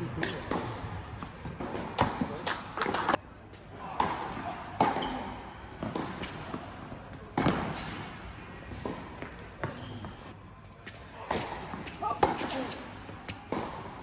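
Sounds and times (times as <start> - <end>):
racquet hitting tennis ball: 0.2 - 3.2, 4.0 - 9.9, 11.2 - 14.0.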